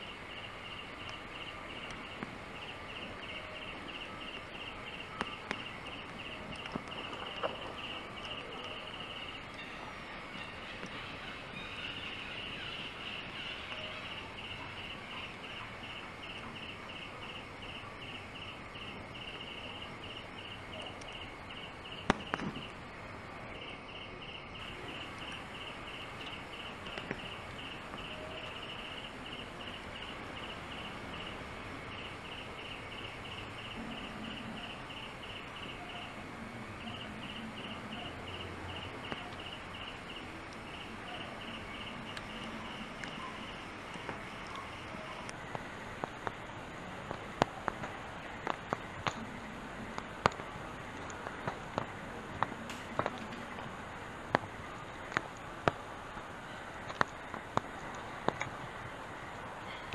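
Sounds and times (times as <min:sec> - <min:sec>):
background hiss: 0:00.0 - 0:59.9
insect chirping: 0:00.0 - 0:59.9.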